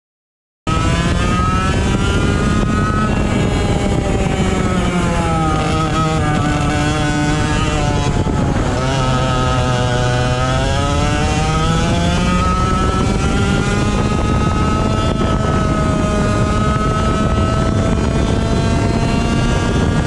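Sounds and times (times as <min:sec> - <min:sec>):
racing kart engine: 0:00.7 - 0:20.0.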